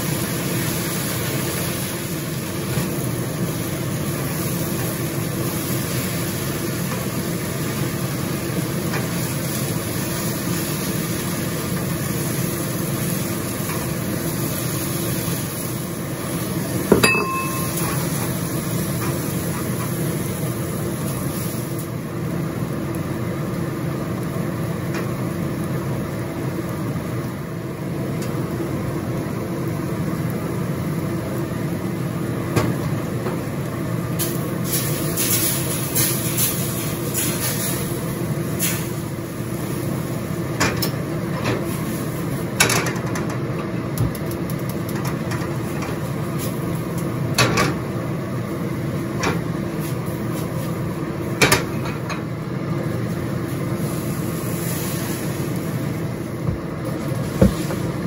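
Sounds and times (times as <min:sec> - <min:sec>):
gas stove hissing and rumbling: 0:00.0 - 0:58.0
vegetables sizzling in a wok: 0:00.0 - 0:58.0.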